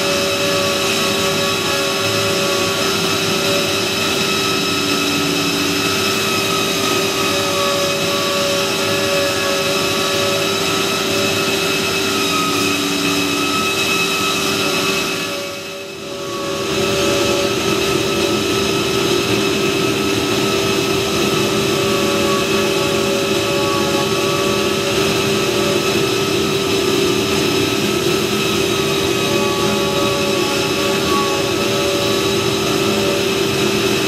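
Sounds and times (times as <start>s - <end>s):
woodworking machinery whirring: 0.0s - 34.0s.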